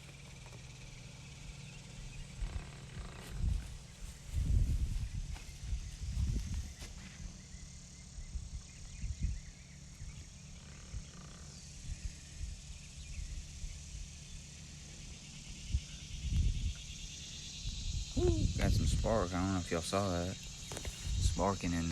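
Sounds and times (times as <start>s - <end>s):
microwave oven rumble: 0.0s - 21.9s.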